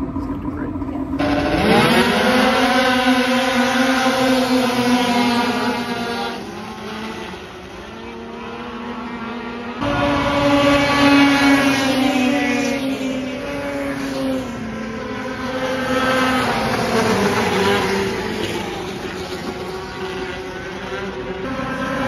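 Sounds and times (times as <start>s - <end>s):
snowmobile engines racing: 0.0s - 22.0s.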